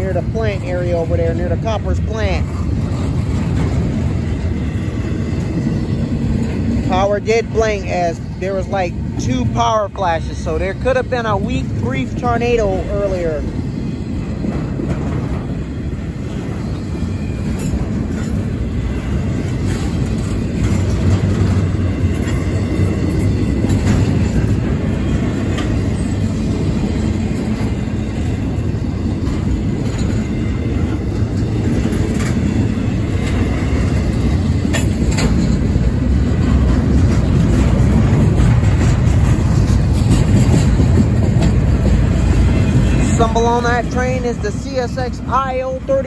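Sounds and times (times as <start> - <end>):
train wheels rumbling on rail: 0.0 - 46.0
wheels clacking on rail joints: 0.0 - 46.0.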